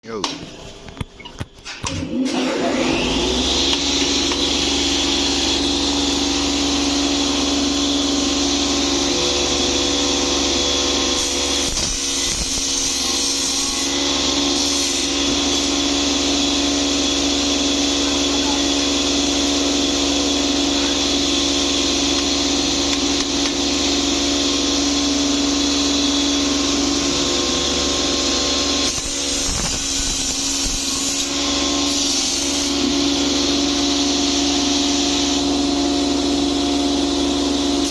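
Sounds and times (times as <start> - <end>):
cutting machine motor humming and whining: 1.9 - 37.9.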